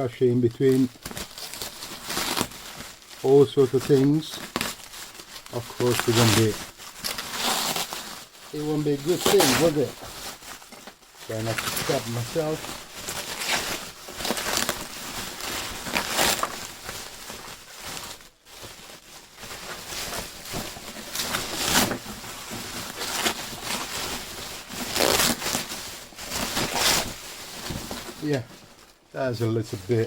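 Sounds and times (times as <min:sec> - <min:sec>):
plastic bag rustling and crinkling: 0:00.0 - 0:30.0.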